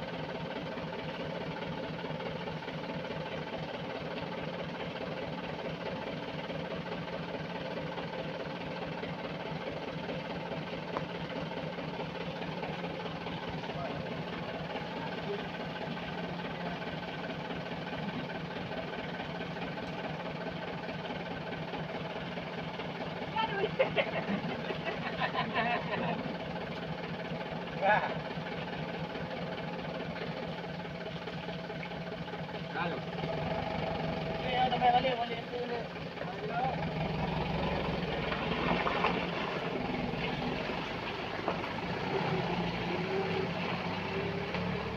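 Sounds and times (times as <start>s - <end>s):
heavy machine engine droning: 0.0s - 44.9s.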